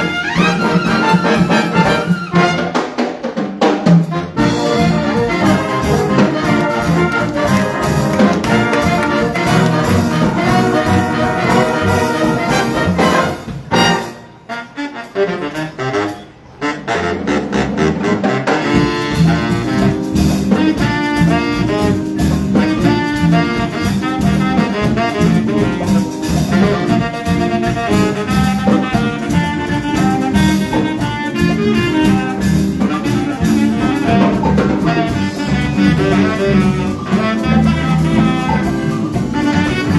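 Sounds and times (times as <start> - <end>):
jazz big band playing: 0.0 - 39.9.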